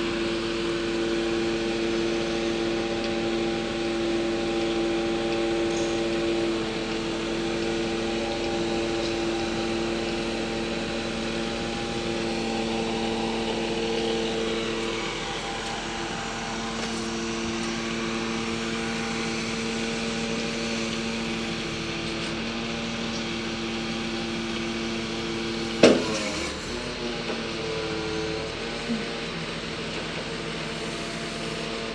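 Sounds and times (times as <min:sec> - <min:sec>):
hydraulic crane whine: 0:00.0 - 0:31.9.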